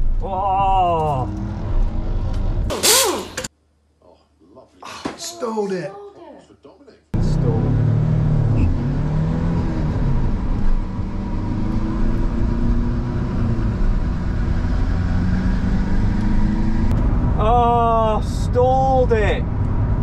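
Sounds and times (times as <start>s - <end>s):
car engine accelerating: 0.0s - 3.5s, 7.2s - 20.0s.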